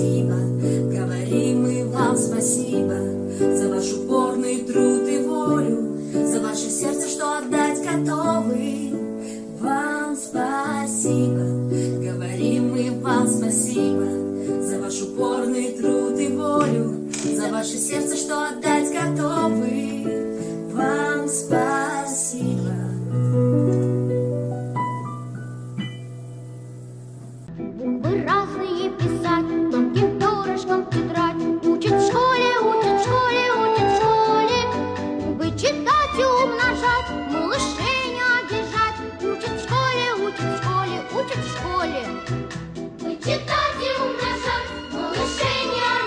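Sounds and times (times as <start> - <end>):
girl singing: 0.0 - 23.7, 27.8 - 42.2, 43.0 - 46.0
woman singing: 0.0 - 23.7, 27.9 - 42.2, 43.1 - 46.0
piano chords: 0.0 - 40.0, 42.7 - 46.0.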